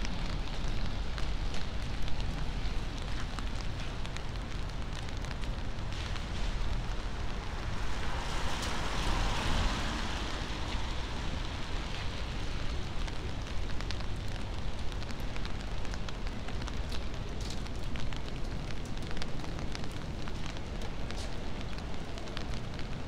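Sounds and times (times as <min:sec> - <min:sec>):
rain on a street: 0:00.0 - 0:23.0.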